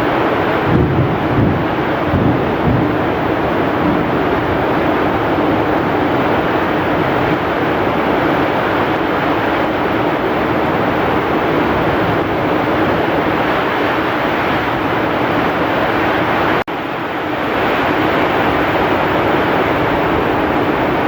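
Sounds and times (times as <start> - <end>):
heavy rain and strong wind: 0.0 - 21.0.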